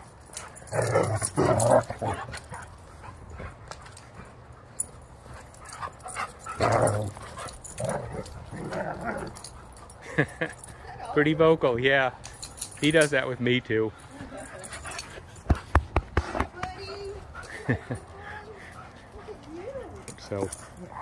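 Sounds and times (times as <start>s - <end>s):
dog play noises: 0.0s - 11.2s, 13.9s - 21.0s.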